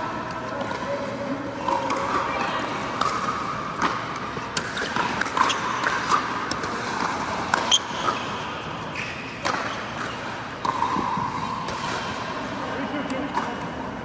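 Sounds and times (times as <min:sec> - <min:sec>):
paddles hitting plastic ball: 0:00.3 - 0:08.2, 0:09.4 - 0:13.8.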